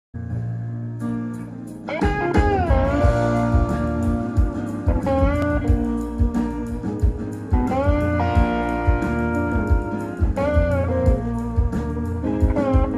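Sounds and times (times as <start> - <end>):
blues rock band music: 1.0 - 12.9
slide guitar gliding: 1.8 - 12.9.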